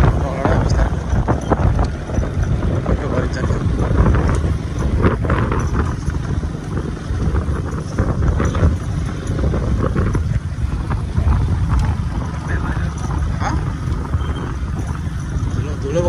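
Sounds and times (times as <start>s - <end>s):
motorcycle engine rumble: 0.0s - 16.0s
wind buffeting microphone: 0.0s - 16.0s.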